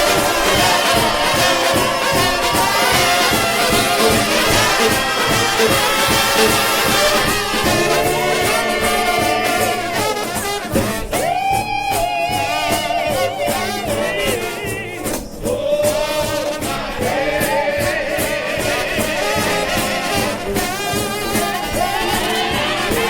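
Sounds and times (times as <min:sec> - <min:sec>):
steady drum beat: 0:00.0 - 0:23.0
trombone band playing: 0:00.0 - 0:23.0.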